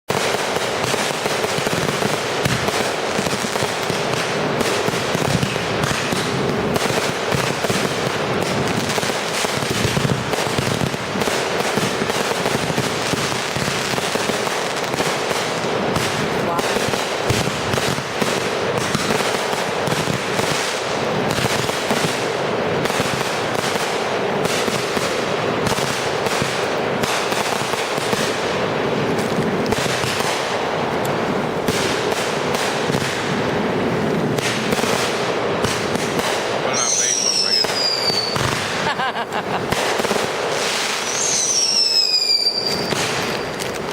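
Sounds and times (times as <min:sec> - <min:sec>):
fireworks bangs and crackling: 0:00.1 - 0:43.9.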